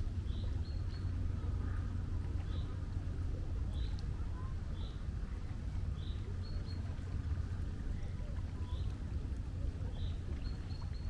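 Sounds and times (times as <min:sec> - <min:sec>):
sea rumble: 0:00.0 - 0:11.0
wind: 0:00.0 - 0:11.0.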